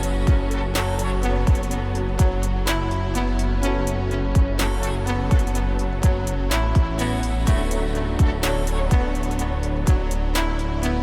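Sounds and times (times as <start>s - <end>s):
deep kick drum: 0.0s - 10.6s
electronic music: 0.0s - 11.0s.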